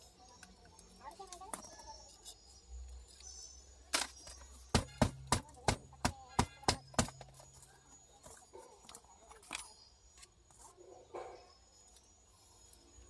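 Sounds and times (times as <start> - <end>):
clicks and knocks of metal tools: 0.1 - 10.8.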